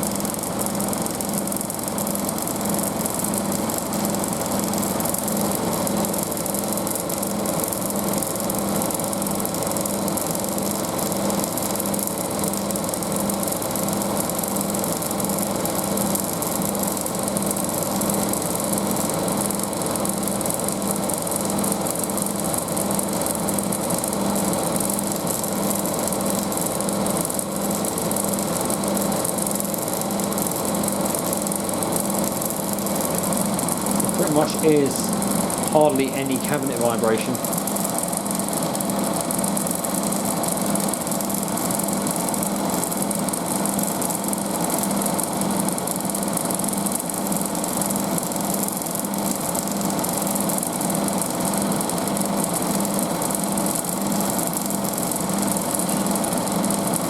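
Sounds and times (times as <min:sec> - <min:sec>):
washing machine spinning: 0:00.0 - 0:36.7, 0:37.3 - 0:57.0.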